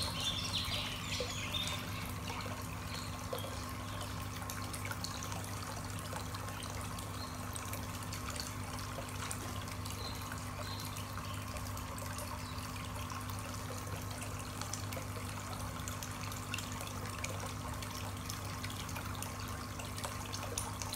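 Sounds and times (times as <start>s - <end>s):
water trickling into a pond: 0.0s - 20.9s.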